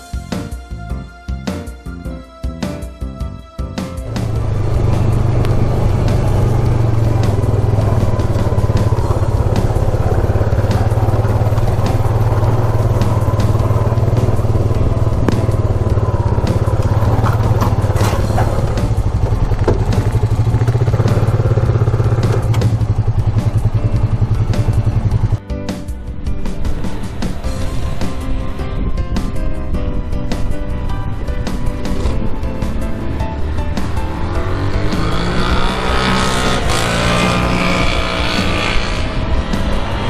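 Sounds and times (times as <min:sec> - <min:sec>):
atv engine running: 0:04.0 - 0:25.4, 0:26.4 - 0:40.0.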